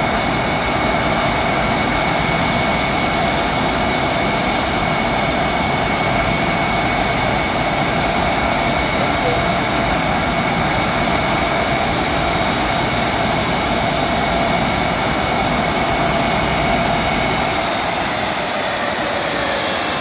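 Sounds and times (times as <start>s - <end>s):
jet engine whine and roar: 0.0s - 20.0s.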